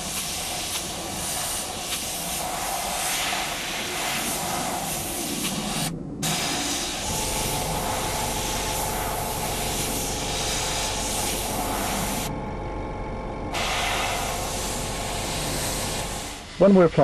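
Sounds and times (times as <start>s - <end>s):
airbrush hissing: 0.0s - 12.3s, 13.5s - 17.0s
steady low hum: 0.0s - 17.0s.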